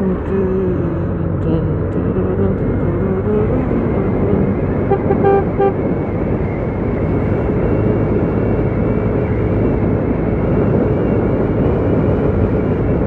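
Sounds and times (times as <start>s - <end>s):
motorcycle engine running: 0.0s - 13.0s
road noise: 0.0s - 13.0s
wind rush: 0.0s - 13.0s.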